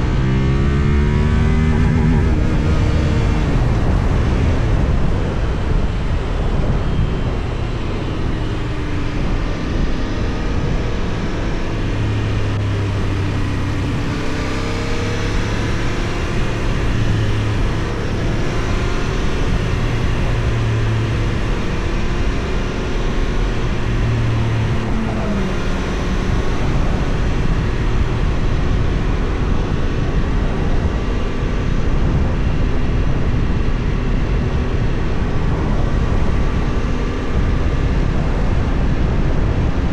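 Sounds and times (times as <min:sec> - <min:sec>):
motorcycle engine running: 0:00.0 - 0:39.7
wind noise on microphone: 0:00.0 - 0:39.9.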